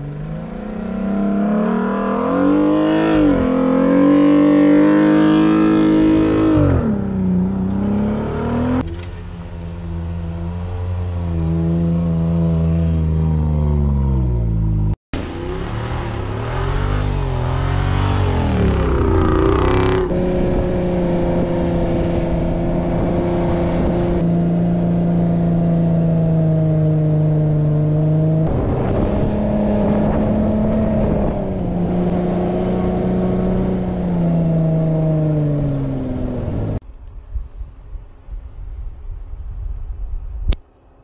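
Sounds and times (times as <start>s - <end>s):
car engine at high revs: 0.0s - 36.8s.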